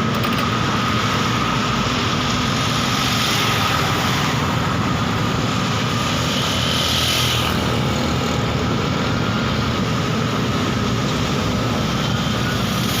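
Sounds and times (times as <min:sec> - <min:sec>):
heavy diesel engine running: 0:00.0 - 0:06.8, 0:07.6 - 0:13.0.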